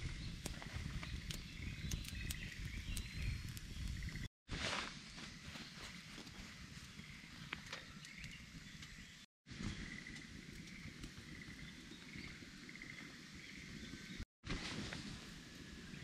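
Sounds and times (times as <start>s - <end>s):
faint birdsong chirps and trills: 0.0s - 4.3s, 5.0s - 14.2s
low outdoor rustling: 0.0s - 16.0s.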